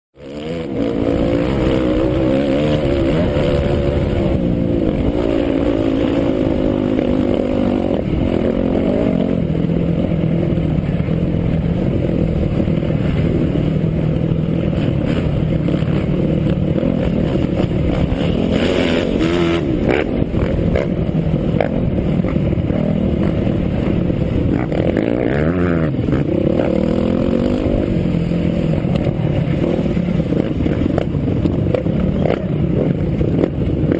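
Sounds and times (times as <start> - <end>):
dirt bike engines idling and revving: 0.2 - 33.9.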